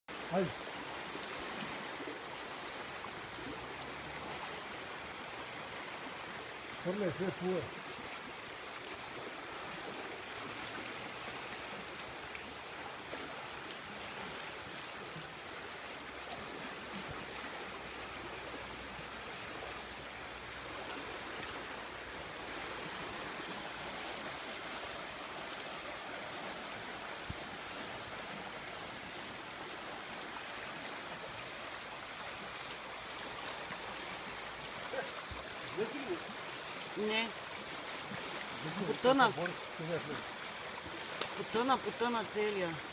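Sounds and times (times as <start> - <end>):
creek rushing over rocks: 0.1 - 42.9.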